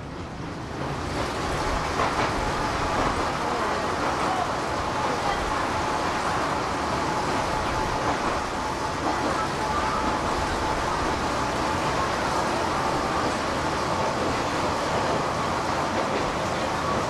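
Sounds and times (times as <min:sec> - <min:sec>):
rail cart wheels rumbling on rails: 0:00.0 - 0:17.0.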